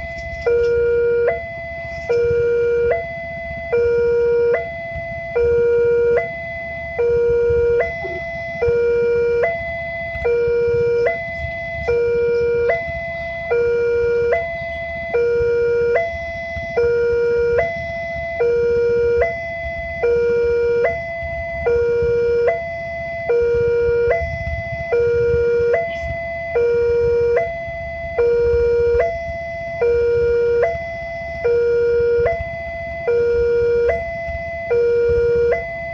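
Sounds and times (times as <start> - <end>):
level-crossing two-tone alarm: 0.0 - 35.9
steady low rumble: 0.0 - 35.9.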